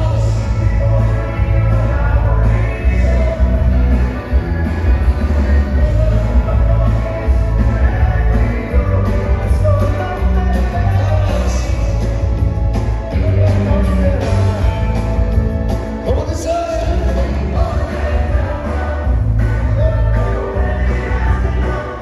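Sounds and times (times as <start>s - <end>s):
dance music with singing: 0.0s - 22.0s.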